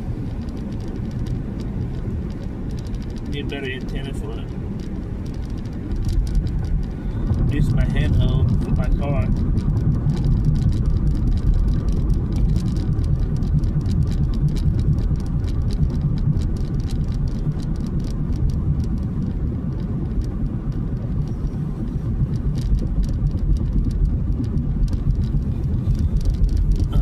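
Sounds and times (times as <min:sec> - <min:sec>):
tyres and engine rumble: 0:00.0 - 0:27.0.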